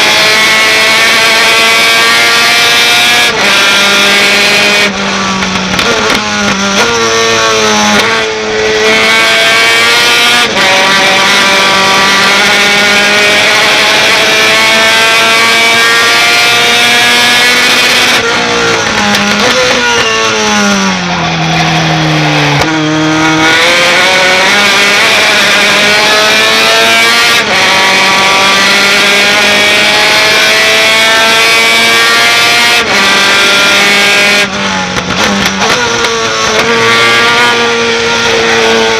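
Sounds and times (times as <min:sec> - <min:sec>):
truck engine at full throttle: 0:00.0 - 0:38.9.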